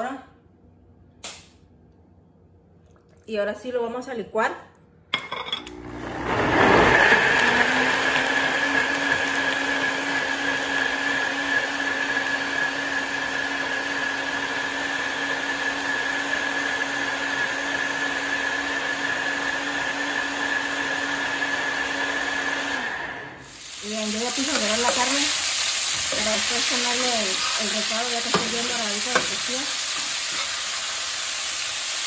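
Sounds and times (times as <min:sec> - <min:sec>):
blender running: 0:05.6 - 0:32.0.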